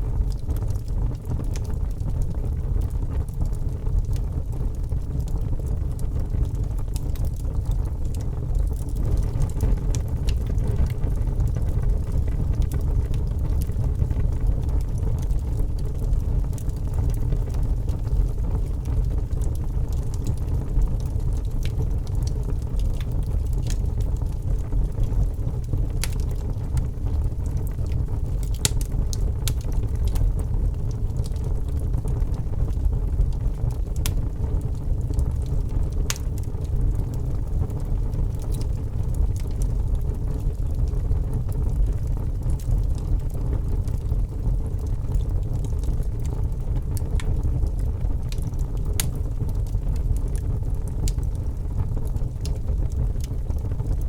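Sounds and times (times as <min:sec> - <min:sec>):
fire crackling and popping: 0:00.0 - 0:54.0
wood fire rumbling: 0:00.0 - 0:54.0.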